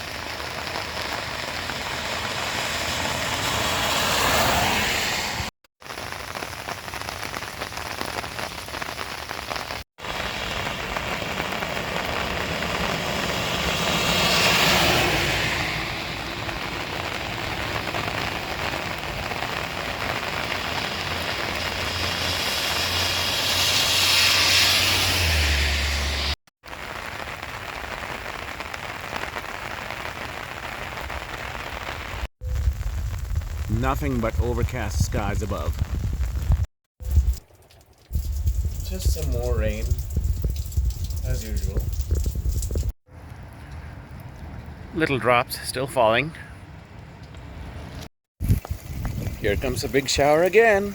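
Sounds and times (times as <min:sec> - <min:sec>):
rain falling: 0:00.0 - 0:42.9, 0:48.4 - 0:50.9.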